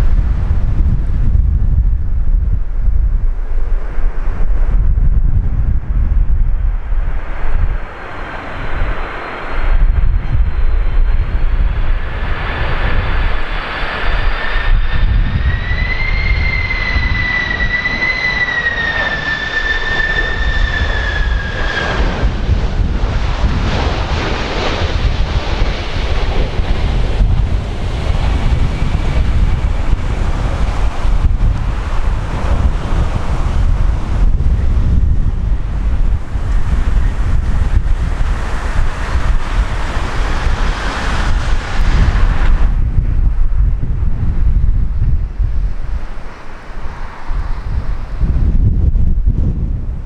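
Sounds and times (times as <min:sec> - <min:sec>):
jet engine whine: 0:00.0 - 0:50.0
wind buffeting microphone: 0:00.0 - 0:50.0.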